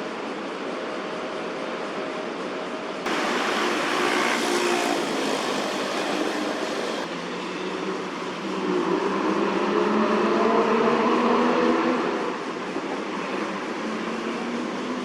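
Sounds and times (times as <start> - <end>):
city traffic noise: 2.8 - 15.0.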